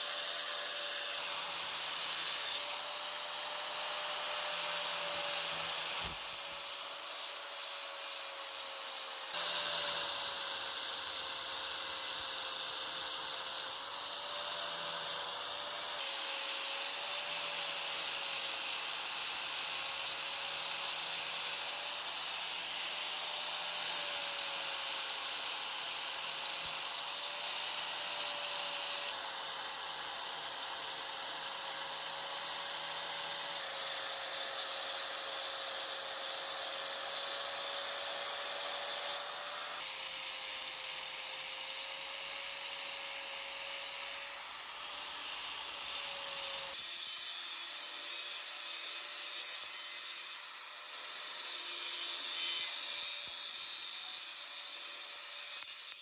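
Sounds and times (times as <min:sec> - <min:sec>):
small power tool grinding metal: 0:00.0 - 0:56.0.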